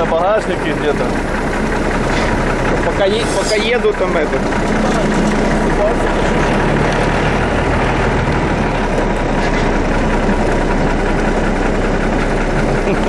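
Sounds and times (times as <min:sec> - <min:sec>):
vehicle engine at low revs: 0:00.0 - 0:13.0.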